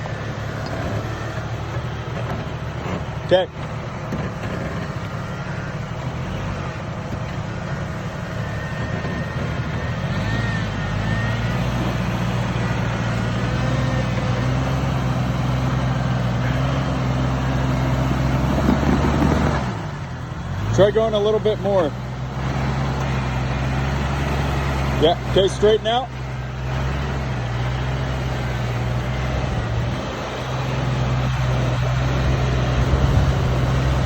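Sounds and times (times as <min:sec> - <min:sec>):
off-road vehicle engine: 0:00.0 - 0:34.0.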